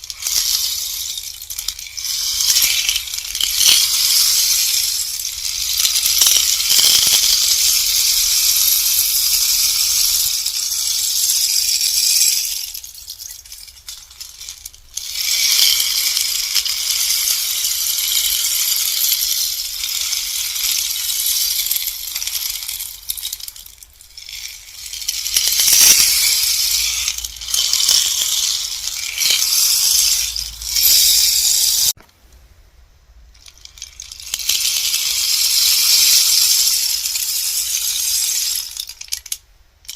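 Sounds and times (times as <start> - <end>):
rainstick pellets trickling: 0.0 - 32.0, 33.4 - 39.9.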